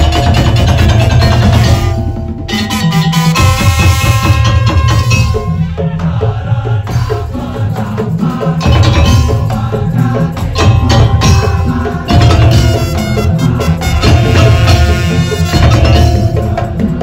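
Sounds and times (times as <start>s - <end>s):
heavy drum beats: 0.0s - 17.0s
pitched percussion melody: 0.0s - 17.0s.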